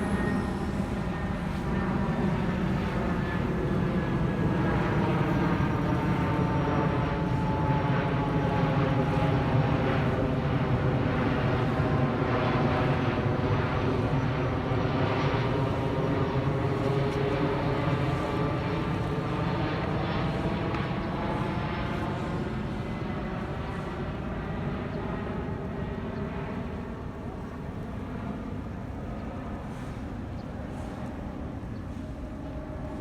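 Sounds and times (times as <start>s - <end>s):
jet engines rumbling and whining: 0.0s - 33.0s.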